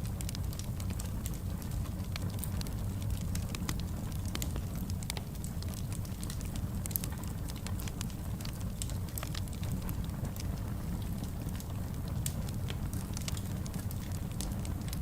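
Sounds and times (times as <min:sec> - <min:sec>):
fire crackling and popping: 0:00.0 - 0:15.0
low rumble of burning: 0:00.0 - 0:15.0.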